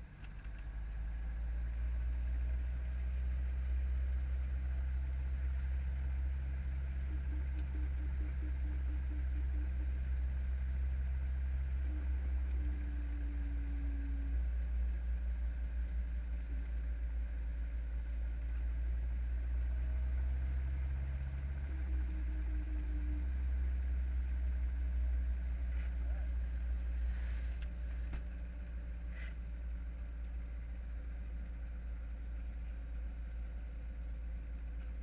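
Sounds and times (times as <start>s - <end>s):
helicopter low drone: 0.0s - 33.0s
faint hum shifting in pitch: 0.0s - 35.0s.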